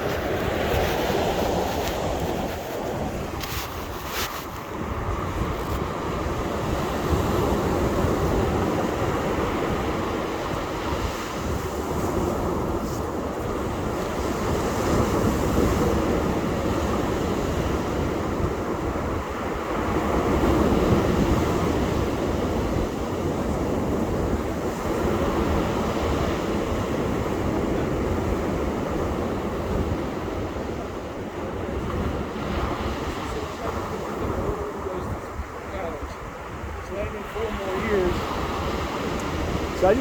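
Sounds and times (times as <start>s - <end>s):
ocean waves breaking on beach: 0.0s - 40.0s.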